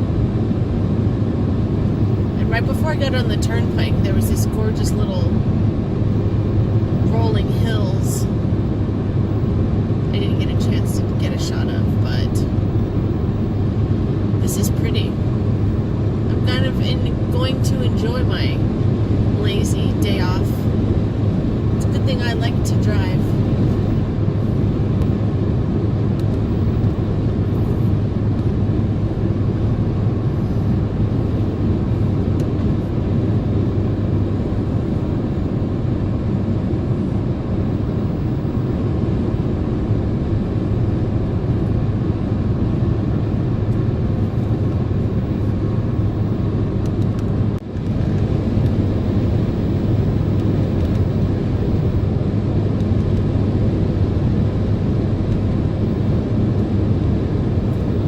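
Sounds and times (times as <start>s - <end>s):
road and engine noise in car cabin: 0.0s - 58.0s.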